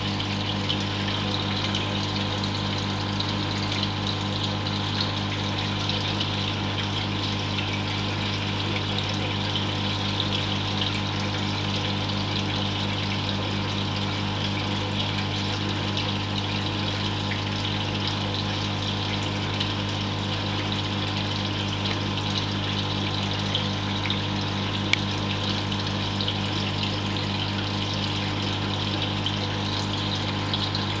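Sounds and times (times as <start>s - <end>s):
water pump hum: 0.0s - 31.0s
water trickling and splashing: 0.0s - 31.0s.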